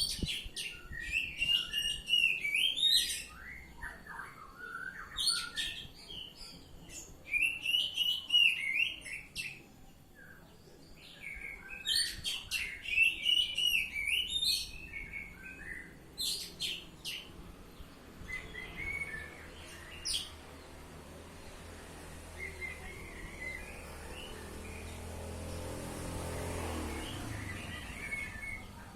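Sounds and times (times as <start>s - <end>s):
bird singing varied phrases: 0.0s - 28.9s.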